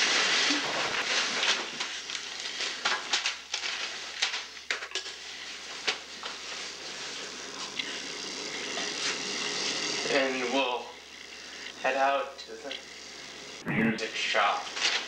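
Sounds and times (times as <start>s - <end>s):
tape hiss: 0.0s - 15.0s.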